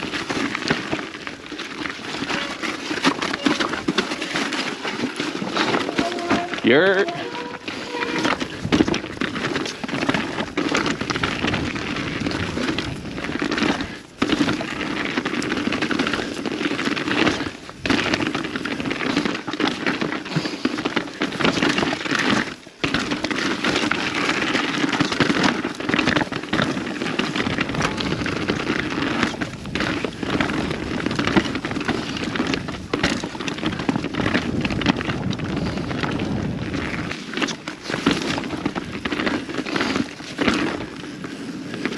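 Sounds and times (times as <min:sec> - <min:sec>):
bike rattling over bumps: 0:00.0 - 0:41.9
bike tyres crunching on trail: 0:00.0 - 0:41.9.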